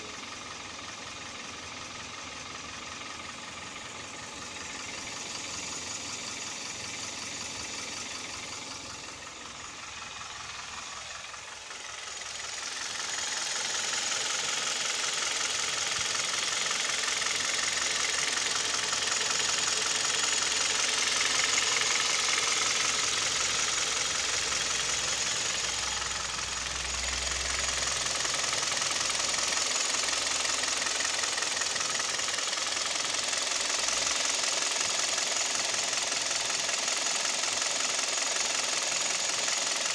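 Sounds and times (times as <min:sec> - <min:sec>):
petrol engine knocking: 0:00.0 - 0:39.9.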